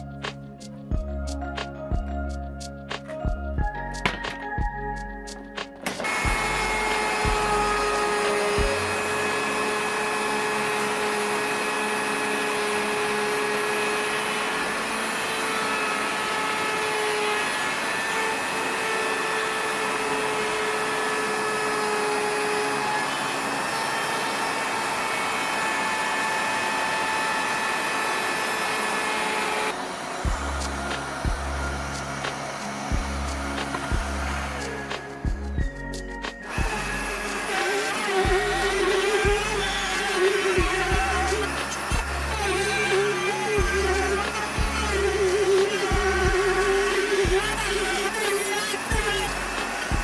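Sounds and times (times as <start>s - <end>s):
electric motor whining: 3.7s - 50.0s.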